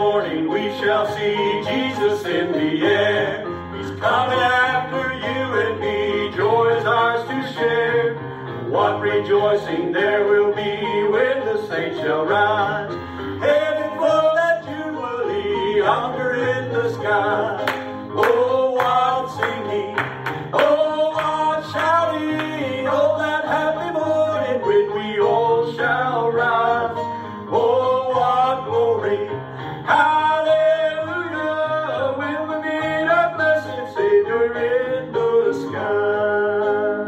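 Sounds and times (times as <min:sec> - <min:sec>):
person singing gospel song: 0:00.0 - 0:37.0.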